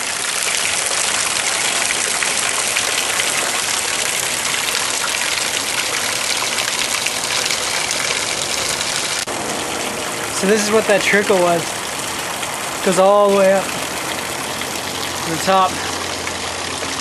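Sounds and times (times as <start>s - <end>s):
waterfall splashing: 0.0s - 17.0s.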